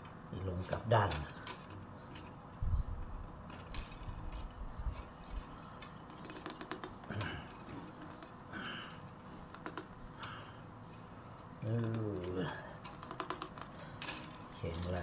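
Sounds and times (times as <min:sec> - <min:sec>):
bamboo strips clicking and rattling: 0:00.0 - 0:15.0.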